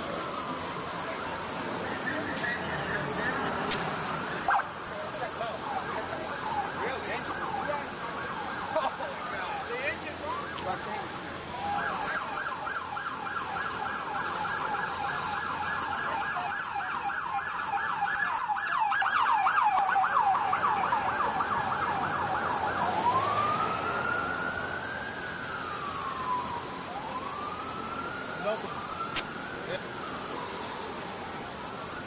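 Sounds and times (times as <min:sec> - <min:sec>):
electronic siren yelp and wail: 0:04.2 - 0:32.0.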